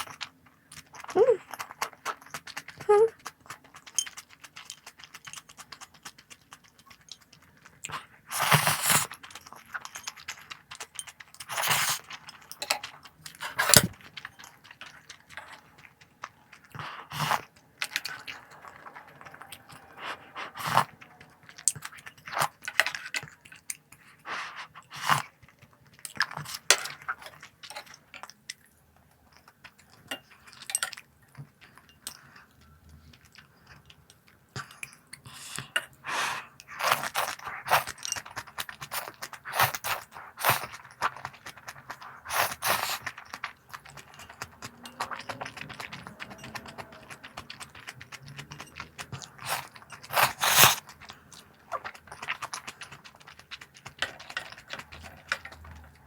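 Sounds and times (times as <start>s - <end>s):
crunchy snacks being chewed: 0.0s - 56.0s.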